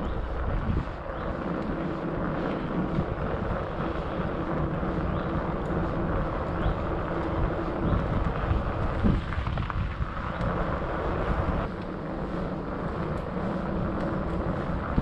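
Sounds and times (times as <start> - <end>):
bike tyres rolling on tarmac: 0.0 - 15.0
wind buffeting microphone: 0.0 - 15.0.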